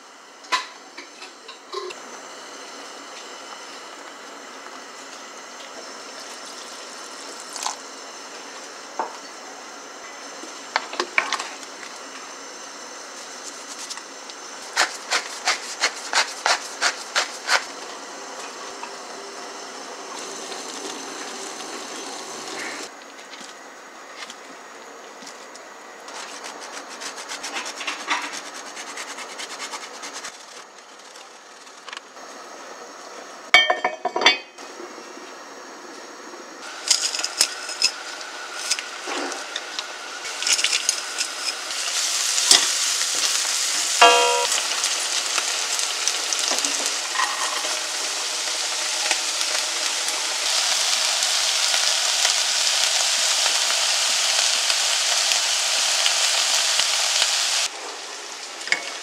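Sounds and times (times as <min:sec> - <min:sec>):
steady cooking hiss: 0:00.0 - 0:59.0.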